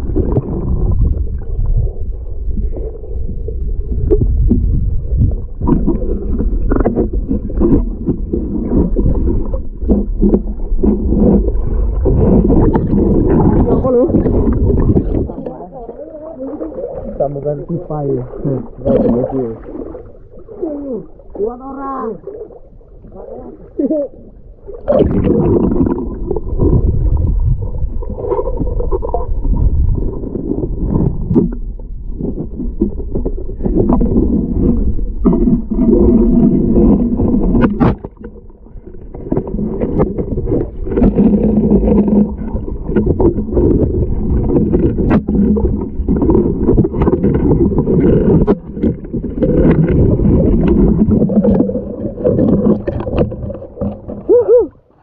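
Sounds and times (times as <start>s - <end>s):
bubbling: 0.0s - 55.0s
low underwater rumble: 0.0s - 55.0s.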